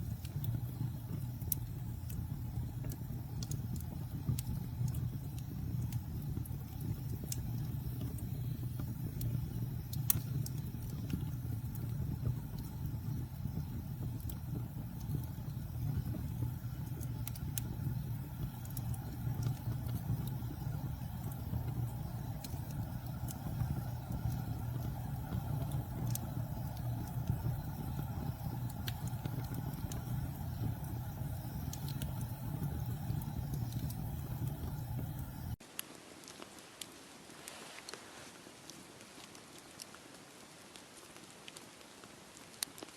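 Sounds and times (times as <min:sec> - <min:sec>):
low rumble of flames: 0:00.0 - 0:35.9
burning wood crackling and popping: 0:00.0 - 0:42.9.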